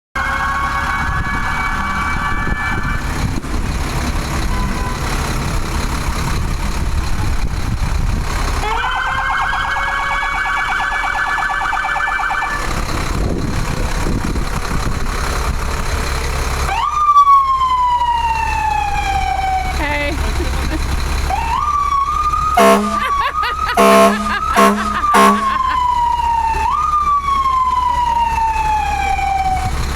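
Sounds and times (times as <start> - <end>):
fire truck siren wailing: 0.2 - 7.4, 8.3 - 29.9
low engine rumble: 0.2 - 10.7, 12.5 - 29.9.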